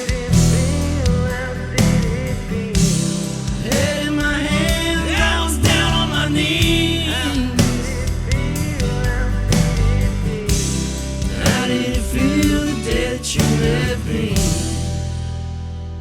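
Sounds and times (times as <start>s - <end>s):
person singing: 0.0s - 10.7s, 11.3s - 15.0s
band with guitar bass and drums: 0.0s - 16.0s.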